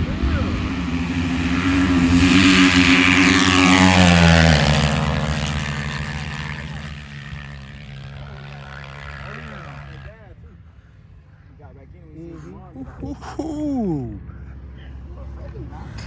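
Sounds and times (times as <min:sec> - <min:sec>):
dirt bikes passing at full throttle: 0:00.0 - 0:16.0.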